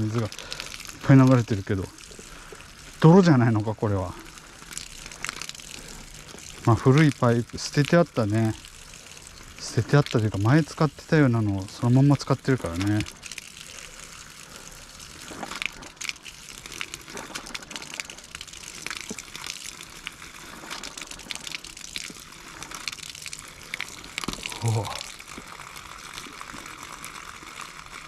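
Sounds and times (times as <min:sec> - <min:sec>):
water spraying from faucet: 0:00.0 - 0:28.0.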